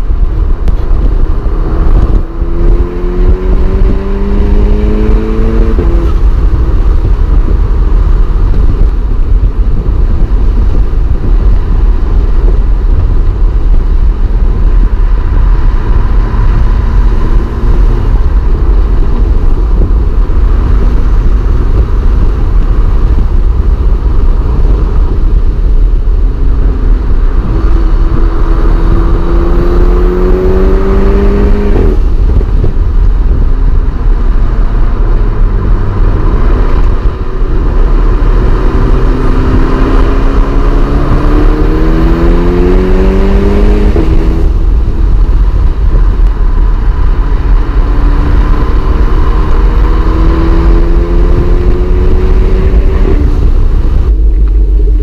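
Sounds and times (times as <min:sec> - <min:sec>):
car engine revving: 0:00.0 - 0:55.0
road and wind noise: 0:00.0 - 0:55.0.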